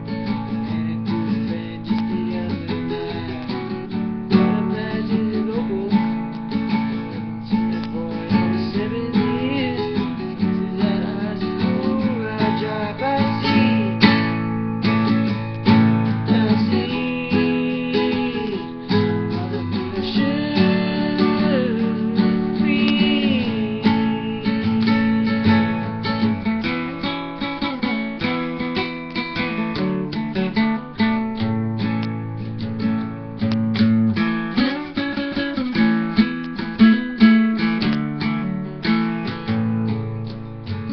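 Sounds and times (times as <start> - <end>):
classical guitar strummed: 0.0 - 40.9.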